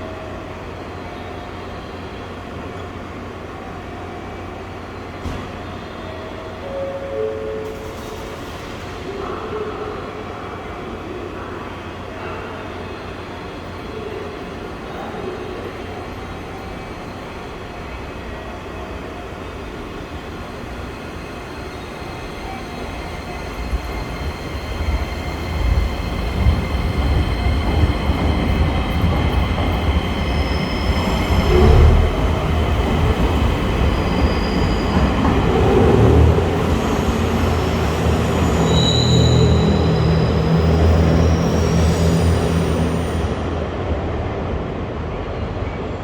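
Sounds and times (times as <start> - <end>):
train rumble and running noise: 0.0 - 46.0.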